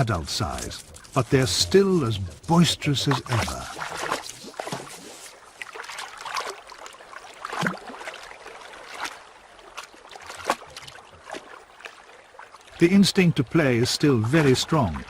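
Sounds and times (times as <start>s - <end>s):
otters splashing in water: 0.0s - 12.8s.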